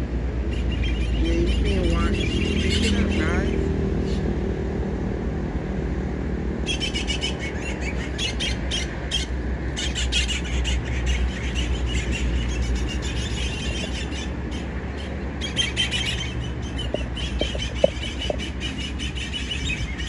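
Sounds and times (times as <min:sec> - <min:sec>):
steady low rumble: 0:00.0 - 0:20.0
birds chirping: 0:00.4 - 0:04.3, 0:06.6 - 0:20.0.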